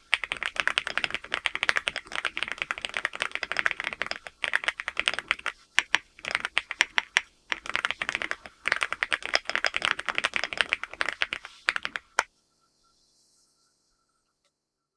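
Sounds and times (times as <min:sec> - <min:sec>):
mechanical keyboard typing: 0:00.0 - 0:12.3.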